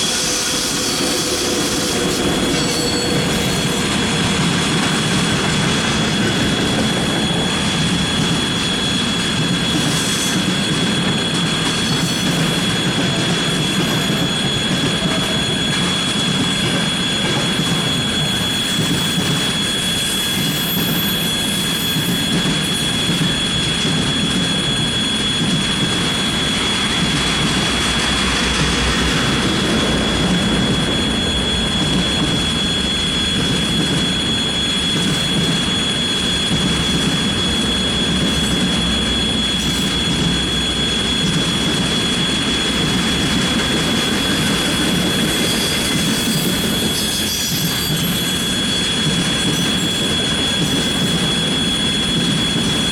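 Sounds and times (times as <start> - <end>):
high-pitched whine: 0.0 - 52.9
train wagons rumbling on rails: 0.0 - 52.9.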